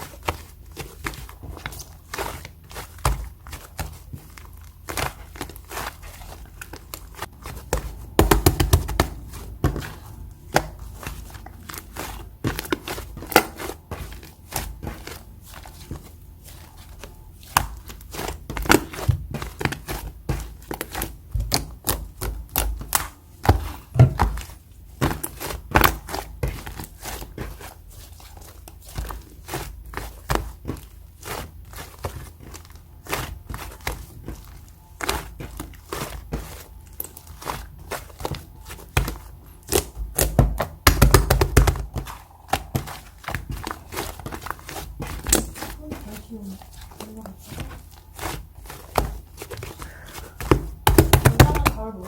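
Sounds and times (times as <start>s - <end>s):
clay slime squelching and clicking: 0.0s - 52.0s.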